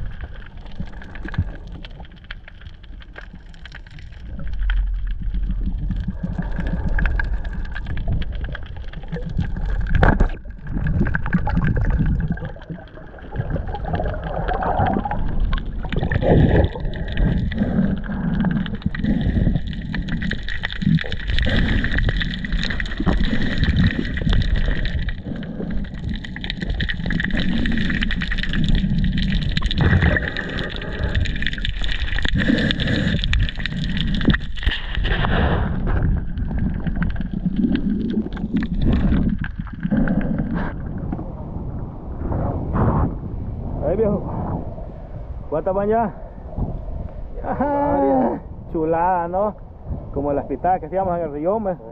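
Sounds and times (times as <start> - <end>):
underwater rumble of moving water: 0.0 - 51.9
water gurgling: 0.0 - 51.9.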